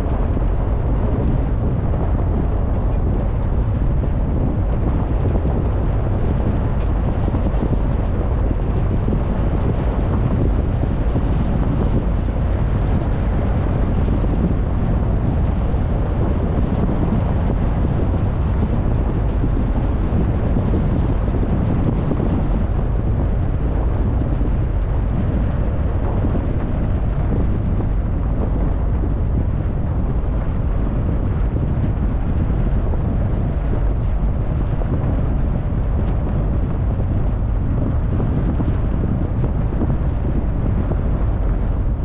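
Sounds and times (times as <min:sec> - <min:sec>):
wind rumble on microphone: 0:00.0 - 0:42.0.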